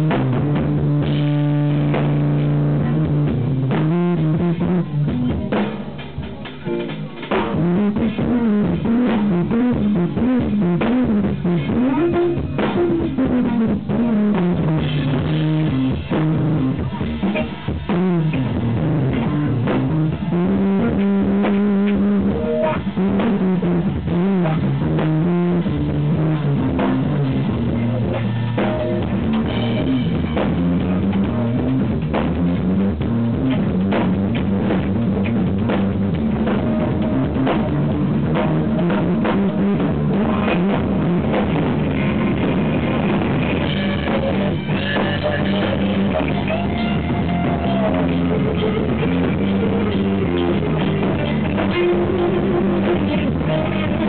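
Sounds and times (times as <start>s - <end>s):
dense drumming: 0.0s - 54.0s
electric bass line: 0.0s - 54.0s
electric guitar: 0.0s - 54.0s.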